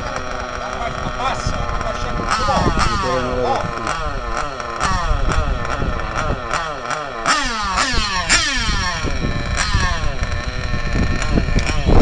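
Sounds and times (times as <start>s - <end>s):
rc car engines revving: 0.0s - 12.0s.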